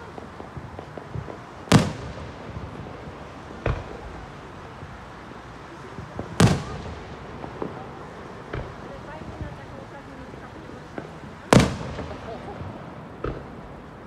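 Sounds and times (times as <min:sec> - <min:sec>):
small firework pops: 0:00.0 - 0:04.9, 0:05.9 - 0:14.0
fireworks bangs: 0:00.0 - 0:14.0.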